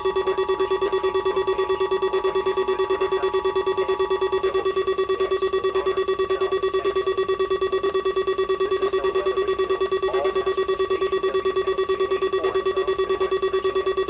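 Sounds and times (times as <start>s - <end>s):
buzzy alarm beeps pulsing: 0.0s - 14.0s.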